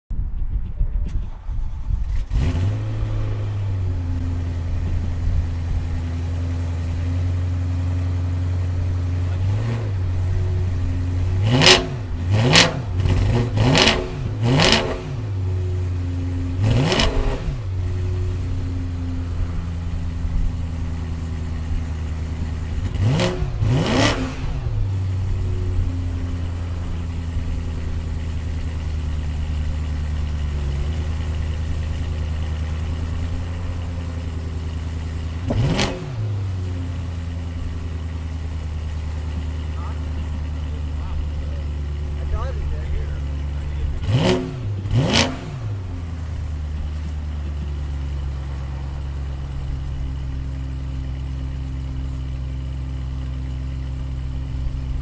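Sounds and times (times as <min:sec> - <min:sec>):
car engine idling: 0:00.1 - 0:55.0
engine throttle blips: 0:00.1 - 0:55.0.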